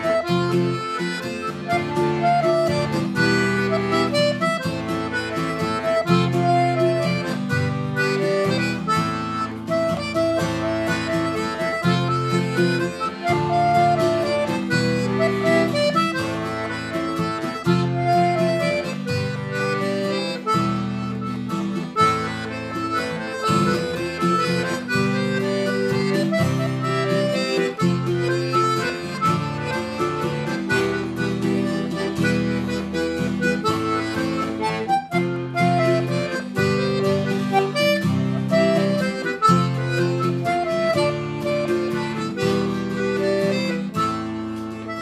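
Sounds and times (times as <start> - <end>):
acoustic guitar plucking: 0.0 - 45.0
button accordion melody: 0.0 - 45.0.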